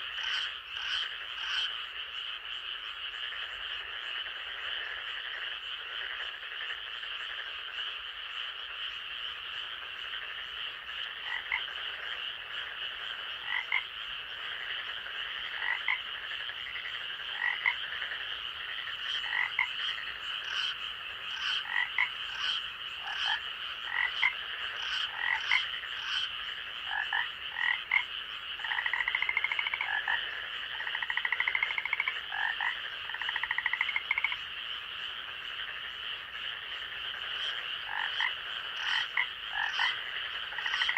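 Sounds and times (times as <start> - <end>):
frog calls: 0.0 - 40.9
high-pitched frog chorus: 0.0 - 40.9
rapid trilling frog calls: 0.0 - 40.9.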